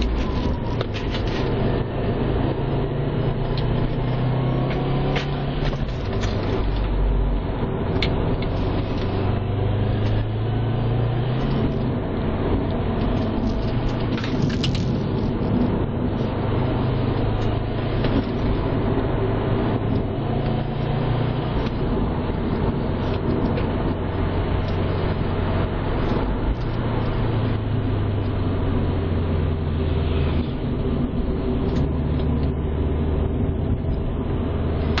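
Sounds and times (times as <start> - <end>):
car engine running: 0.0 - 35.0
tyre and wind noise: 0.0 - 35.0.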